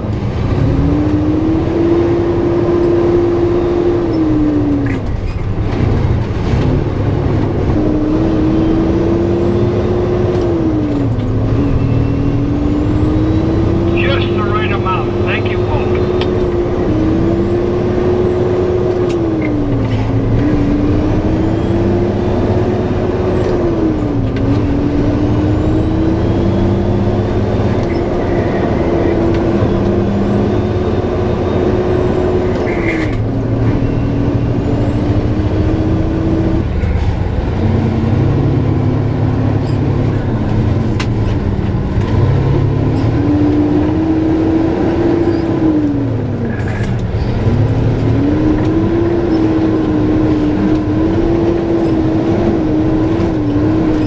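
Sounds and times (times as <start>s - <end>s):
truck engine shifting gears: 0.0s - 54.0s.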